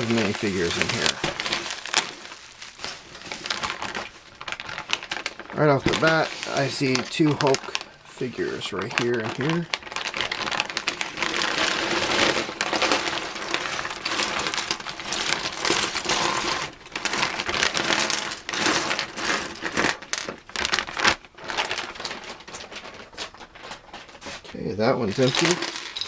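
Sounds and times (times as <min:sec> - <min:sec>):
plastic wrapping crinkling: 0:00.0 - 0:26.0.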